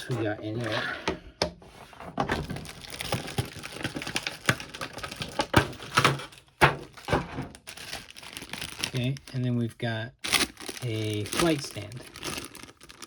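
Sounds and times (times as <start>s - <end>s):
plastic packaging crinkling: 2.4s - 13.0s.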